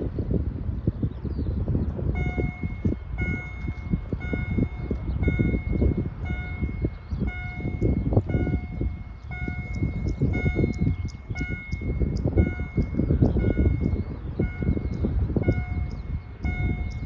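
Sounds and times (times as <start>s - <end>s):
level-crossing bell warning tone: 2.2s - 17.0s.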